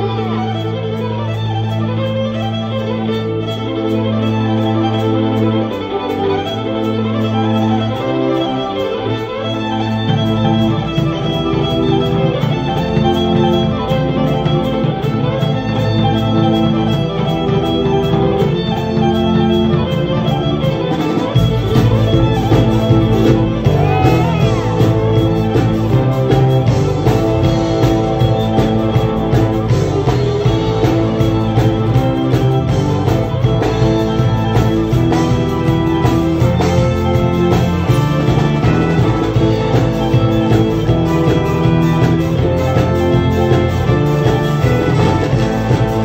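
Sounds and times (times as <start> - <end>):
band with violin lead: 0.0 - 46.0.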